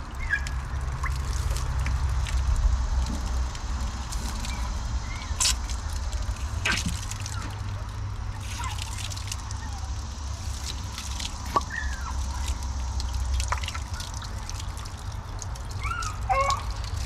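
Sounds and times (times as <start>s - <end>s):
tap water running and splashing: 0.0s - 17.0s.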